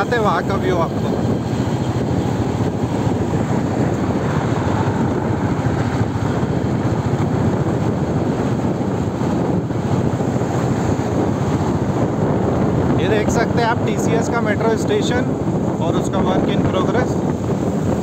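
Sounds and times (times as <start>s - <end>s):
vehicle engine and tyre rumble: 0.0s - 18.0s
wind buffeting microphone: 0.0s - 18.0s.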